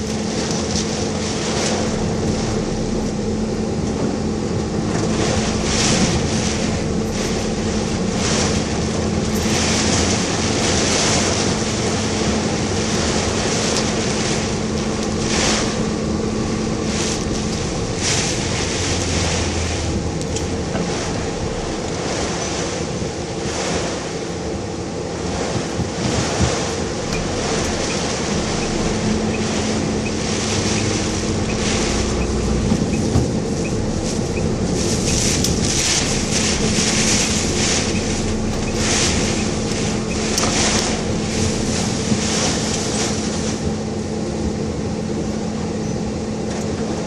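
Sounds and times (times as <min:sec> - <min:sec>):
low steady hum: 0:00.0 - 0:47.0
wind and rain against a car: 0:00.0 - 0:47.0.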